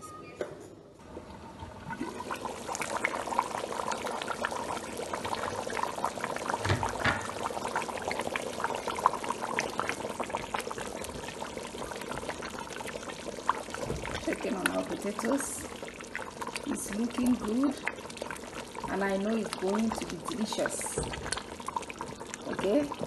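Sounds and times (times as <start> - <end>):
thick porridge bubbling: 1.0 - 23.0.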